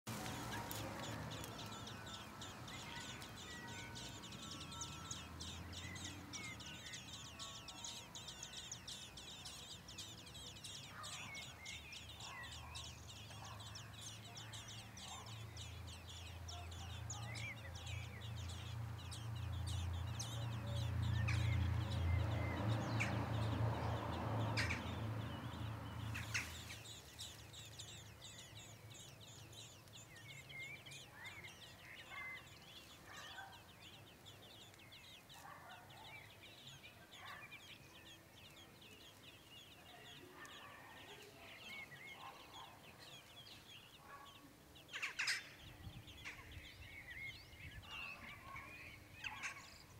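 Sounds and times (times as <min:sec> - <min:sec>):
high-pitched bird chittering: 0:00.2 - 0:49.9.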